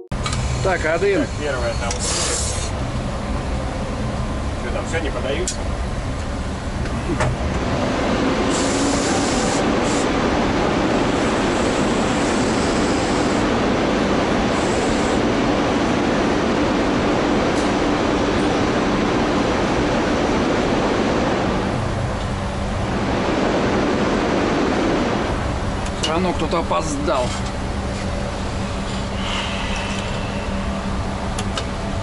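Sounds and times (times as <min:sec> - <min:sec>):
locomotive machinery rushing noise: 0:00.0 - 0:32.0.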